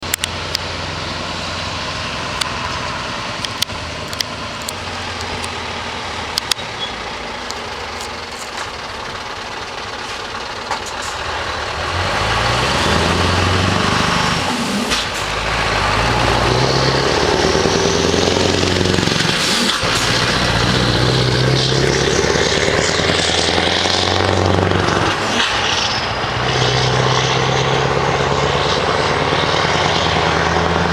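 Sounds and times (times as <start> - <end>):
diesel truck engine: 0.0 - 30.9.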